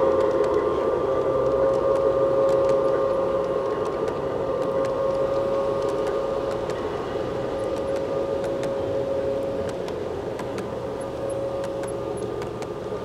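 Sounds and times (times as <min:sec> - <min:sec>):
model train whine and rumble: 0:00.0 - 0:13.0
wheels clicking over rail joints: 0:00.0 - 0:13.0.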